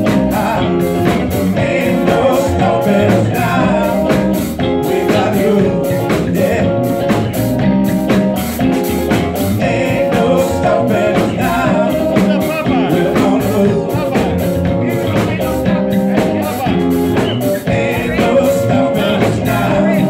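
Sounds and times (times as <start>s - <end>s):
person singing: 0.0s - 7.3s, 9.6s - 16.9s, 17.5s - 20.0s
drum kit beat: 0.0s - 20.0s
electric bass: 0.0s - 20.0s
electric guitar: 0.0s - 20.0s.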